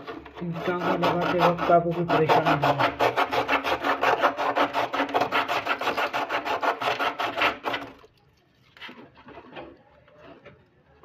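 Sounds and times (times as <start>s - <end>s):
rapid scraping of copper pipe: 0.0s - 11.0s.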